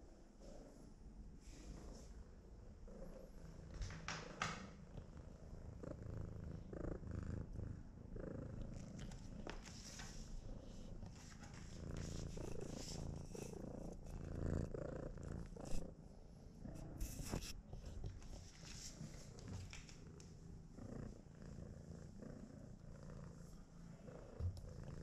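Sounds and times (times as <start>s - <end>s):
cat purring: 0.4s - 25.0s.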